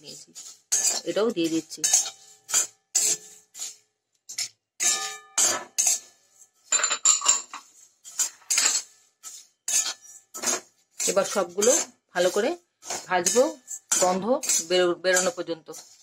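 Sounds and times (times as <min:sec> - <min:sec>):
steel spatula scraping a pan: 0:00.0 - 0:16.0.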